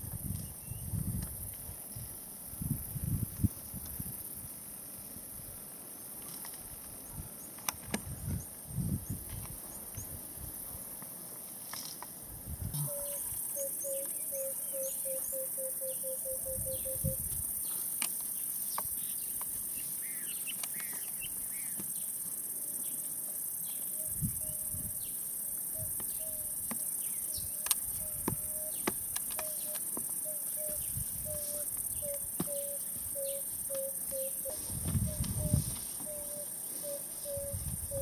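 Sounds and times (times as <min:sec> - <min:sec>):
high insect drone: 0:00.0 - 0:38.0.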